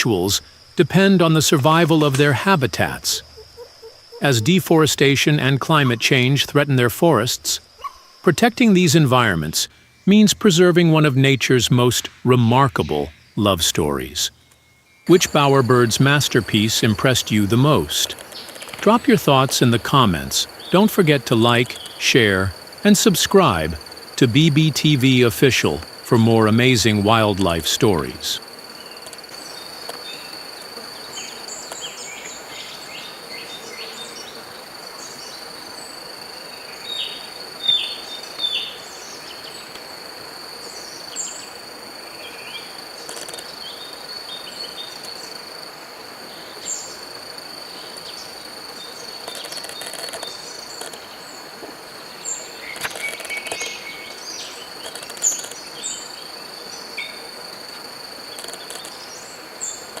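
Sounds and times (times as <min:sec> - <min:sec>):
insects trilling: 0:00.0 - 1:00.0.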